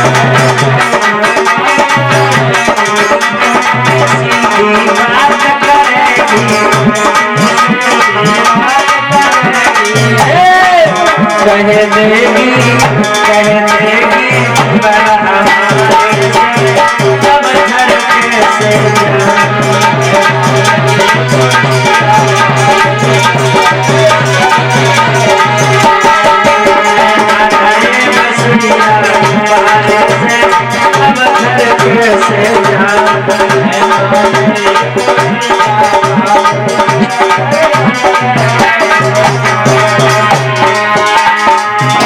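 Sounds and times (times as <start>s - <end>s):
instrumental music with rattles and drums: 0.0s - 42.0s.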